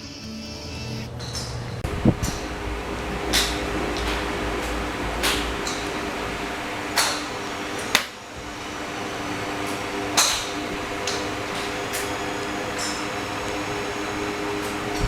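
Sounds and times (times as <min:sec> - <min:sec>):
fan-like hum: 0:00.0 - 0:15.0
golf clubs striking balls: 0:00.9 - 0:15.0.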